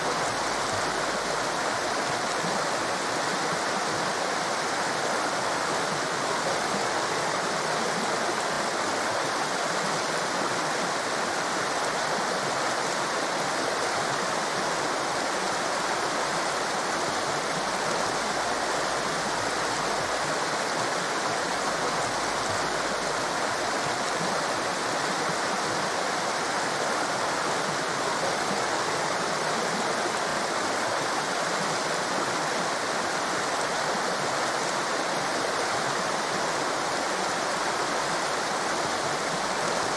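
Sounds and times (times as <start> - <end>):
fast-flowing water rushing: 0.0 - 39.9.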